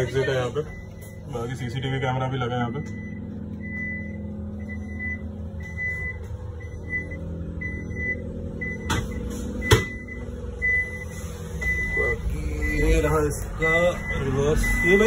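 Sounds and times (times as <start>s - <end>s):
electronic warning beeps: 0.0s - 15.0s
low hum: 0.0s - 15.0s.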